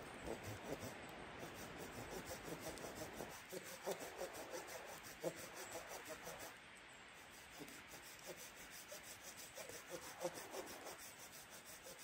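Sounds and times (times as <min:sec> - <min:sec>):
hand saw cutting wood: 0:00.0 - 0:06.6, 0:07.4 - 0:12.0.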